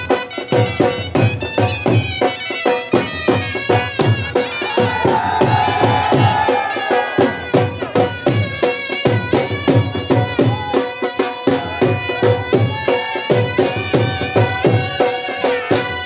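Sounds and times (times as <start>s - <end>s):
drum beating fast rhythm: 0.0s - 16.0s.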